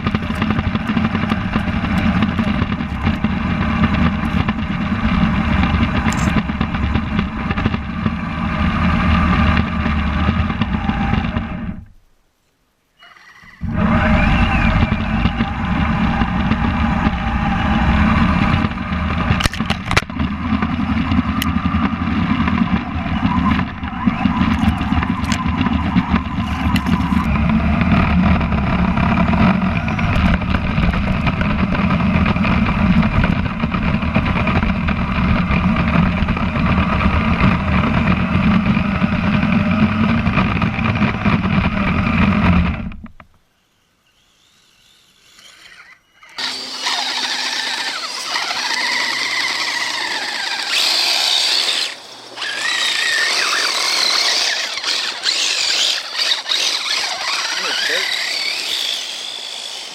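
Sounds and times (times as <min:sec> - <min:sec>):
toy tracked vehicle motor running: 0:00.0 - 0:11.9, 0:13.0 - 0:59.9.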